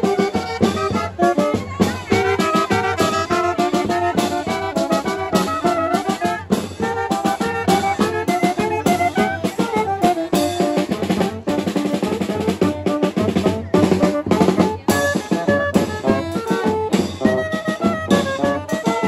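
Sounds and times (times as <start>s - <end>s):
band playing dance music: 0.0s - 19.0s
drum kit rhythm: 0.0s - 19.0s.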